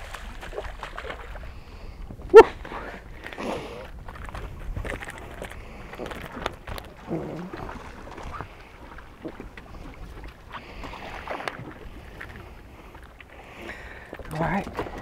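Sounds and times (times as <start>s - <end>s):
water around boat: 0.0s - 15.0s
wind: 0.0s - 15.0s.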